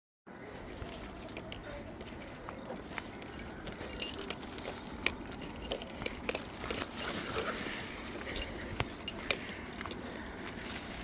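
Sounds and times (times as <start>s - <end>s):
footsteps crunching on a path: 0.6s - 11.0s.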